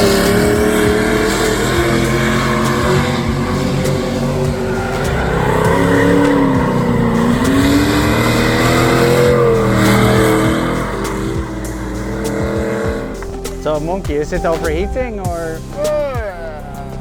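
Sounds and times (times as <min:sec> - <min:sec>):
car engine revving hard: 0:00.0 - 0:14.6
tyres skidding: 0:00.0 - 0:17.0.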